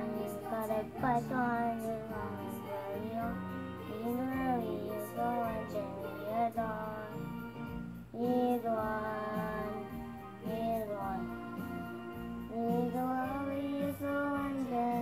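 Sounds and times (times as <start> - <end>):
song with vocals and instruments: 0.0 - 15.0.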